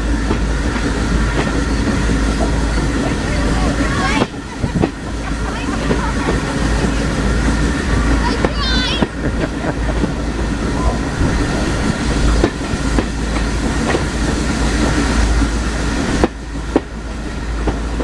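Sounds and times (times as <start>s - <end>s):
wheels clicking over rail joints: 0.0s - 9.3s, 9.9s - 18.0s
train carriage rumbling on track: 0.0s - 18.0s.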